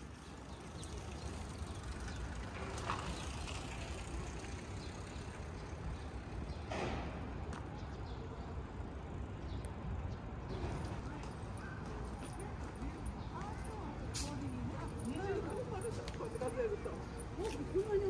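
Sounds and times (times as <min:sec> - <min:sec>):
distant traffic rumble: 0:00.0 - 0:18.0.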